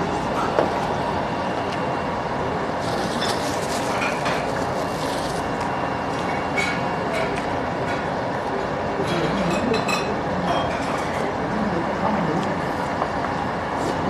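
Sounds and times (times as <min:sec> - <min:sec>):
restaurant background noise: 0:00.0 - 0:14.0.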